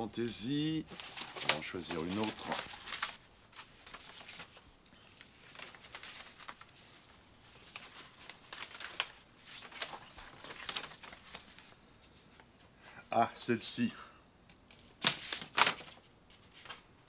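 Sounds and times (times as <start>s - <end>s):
paper posters rustling: 0.5s - 13.6s, 14.7s - 17.0s.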